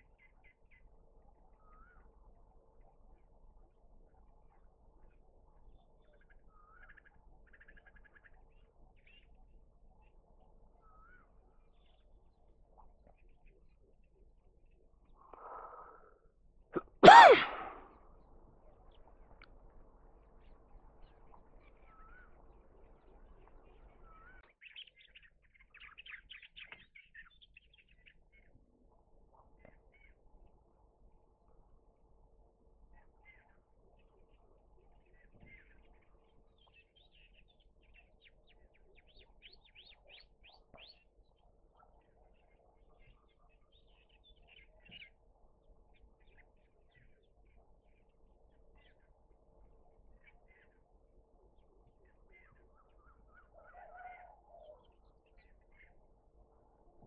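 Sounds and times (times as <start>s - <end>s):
faint bird chirping: 0.0s - 17.9s, 18.6s - 57.0s.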